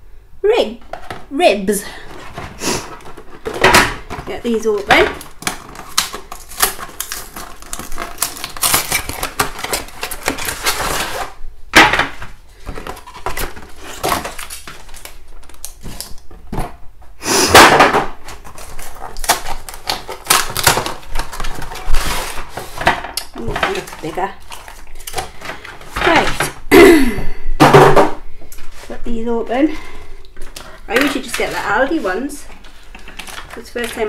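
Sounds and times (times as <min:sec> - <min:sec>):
plastic and cardboard crinkling: 0:00.8 - 0:16.8, 0:17.8 - 0:26.6, 0:30.3 - 0:34.0.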